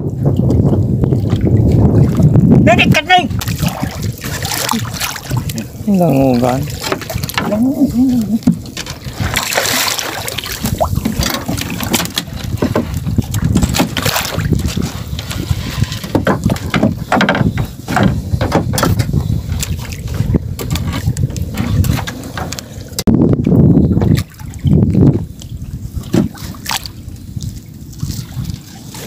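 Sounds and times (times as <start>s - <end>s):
knocks and clatter in boat: 0.0s - 29.0s
water sloshing against hull: 0.0s - 29.0s
wind buffeting microphone: 0.0s - 29.0s.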